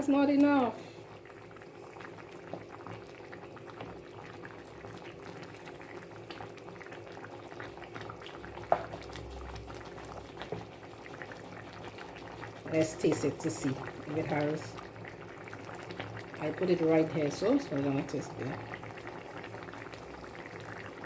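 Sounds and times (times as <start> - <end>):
sauce bubbling in a pot: 0.0 - 21.0.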